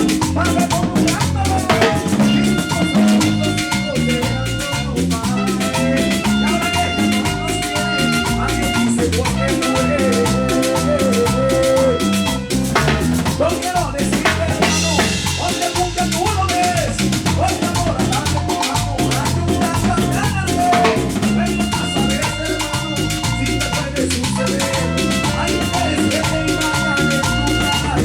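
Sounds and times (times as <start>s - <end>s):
latin band playing: 0.0s - 28.0s.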